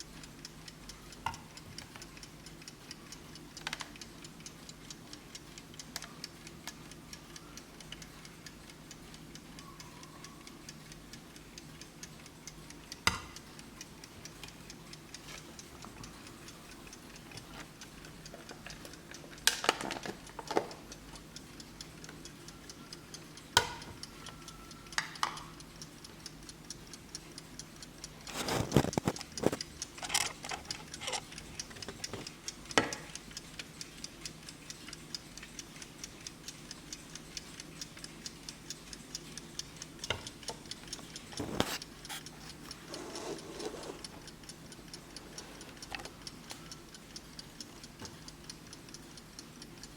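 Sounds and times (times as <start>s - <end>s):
alarm clock ticking: 0.0s - 49.9s.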